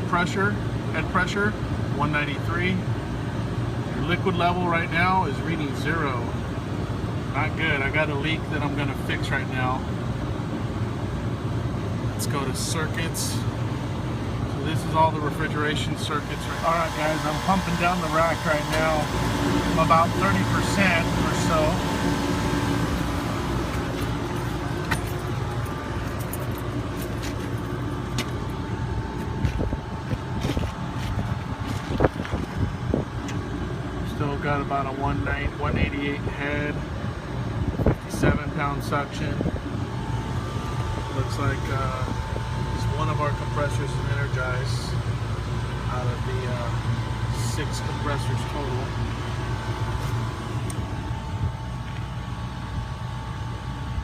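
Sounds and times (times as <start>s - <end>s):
compressor humming: 0.0s - 54.0s.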